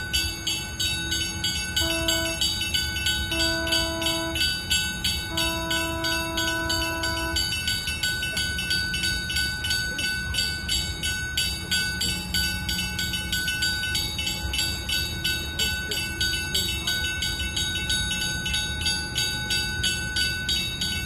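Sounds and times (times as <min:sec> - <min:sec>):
warning bells ringing: 0:00.0 - 0:21.0.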